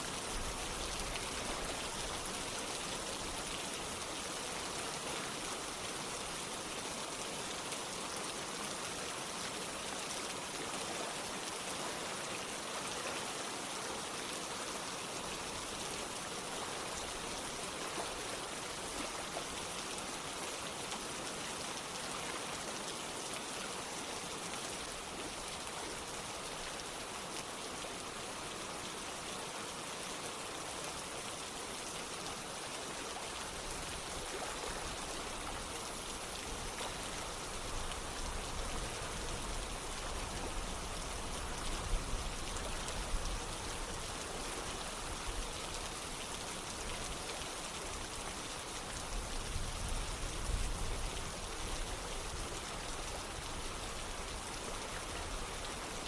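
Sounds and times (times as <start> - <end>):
rain falling: 0.0 - 56.0
running water: 0.0 - 56.0.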